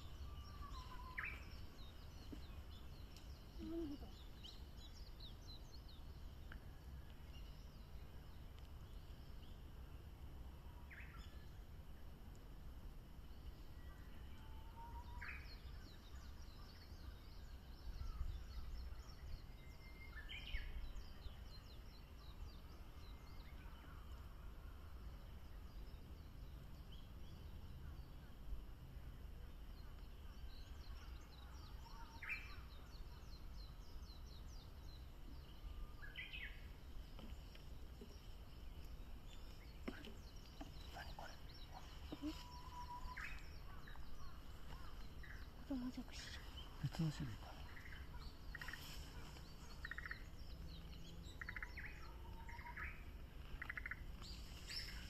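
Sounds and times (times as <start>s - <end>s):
bush warbler singing: 0.0s - 55.0s
small birds chirping: 0.0s - 55.0s.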